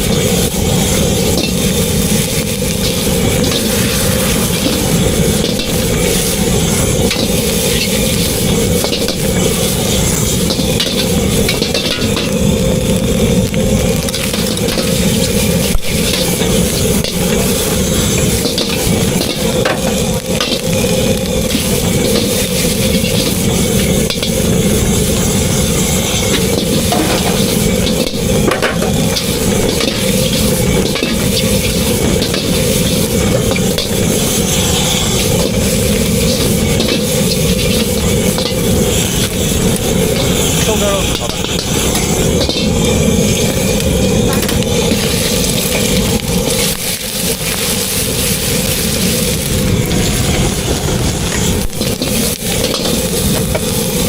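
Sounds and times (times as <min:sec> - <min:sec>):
food sizzling in a pan: 0:00.0 - 0:54.0
steady loud background noise: 0:00.0 - 0:54.0
steady low rumble: 0:00.0 - 0:54.0.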